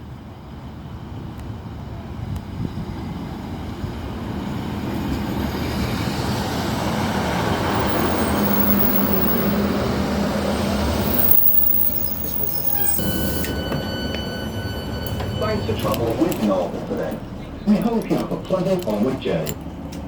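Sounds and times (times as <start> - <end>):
diesel train droning: 0.0 - 20.0.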